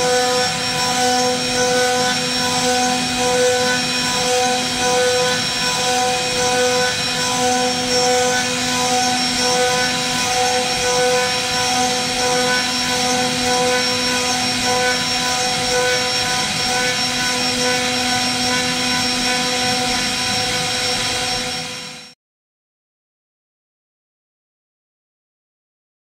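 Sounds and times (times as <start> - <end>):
end mill cutting wood: 0.0 - 22.1
cnc router spindle whine: 0.0 - 22.2.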